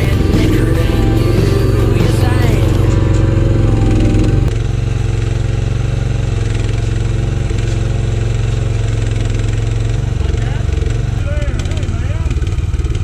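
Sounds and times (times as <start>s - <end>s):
construction machine engine running: 0.0s - 13.0s.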